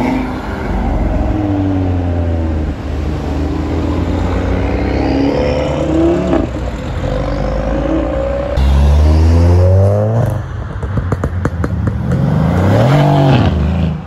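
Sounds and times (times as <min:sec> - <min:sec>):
cars accelerating hard: 0:00.0 - 0:14.0.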